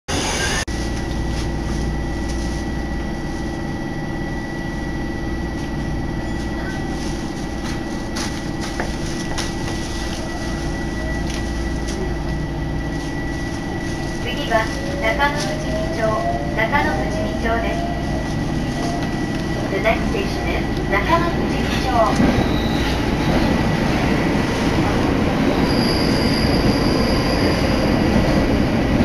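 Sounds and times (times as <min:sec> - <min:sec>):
subway car rumble: 0:00.0 - 0:29.0.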